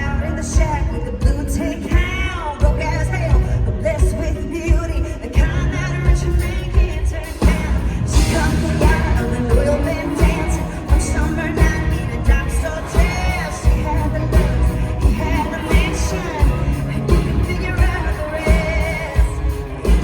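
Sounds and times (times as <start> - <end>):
kick-drum beat: 0.0 - 20.0
live band playing: 0.0 - 20.0
woman singing country song: 0.0 - 20.0.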